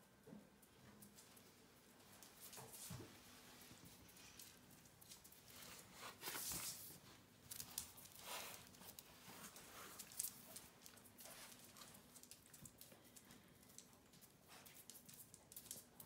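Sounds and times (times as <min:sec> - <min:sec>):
faint rustling and scuffling: 0:00.2 - 0:16.0.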